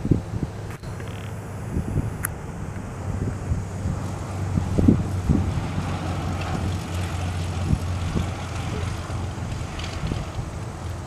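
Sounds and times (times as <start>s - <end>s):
propeller plane engine droning: 0.0s - 11.0s
wind buffeting microphone: 0.0s - 11.0s.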